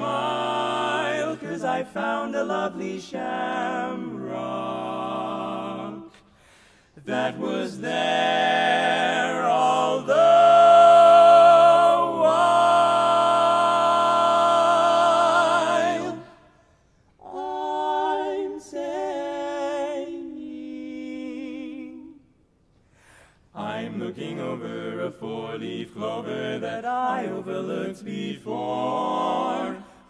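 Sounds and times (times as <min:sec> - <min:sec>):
men singing a cappella: 0:00.0 - 0:06.3, 0:07.0 - 0:16.4, 0:17.2 - 0:22.2, 0:23.6 - 0:30.0.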